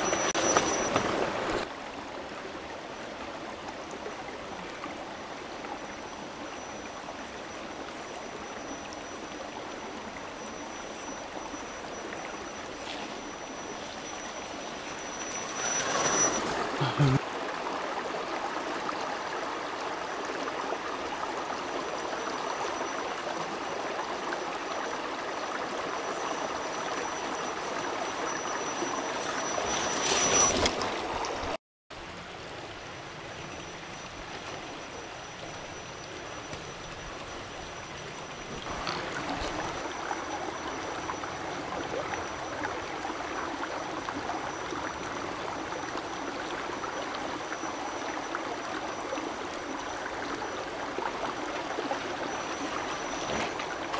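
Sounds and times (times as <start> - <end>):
creek flowing over stones: 0.0 - 53.9.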